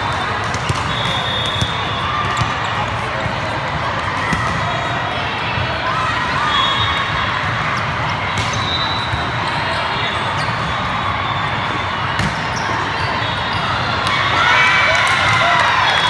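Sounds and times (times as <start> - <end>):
hubbub of voices: 0.0 - 16.0.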